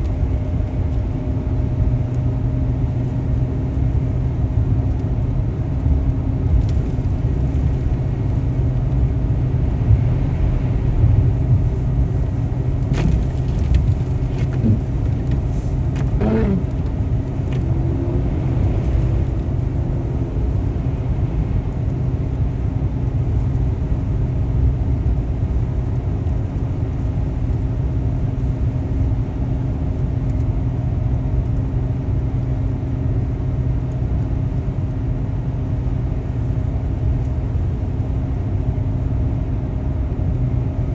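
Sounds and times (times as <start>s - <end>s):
faint constant hum: 0.0s - 40.9s
road and engine rumble in car: 0.0s - 40.9s.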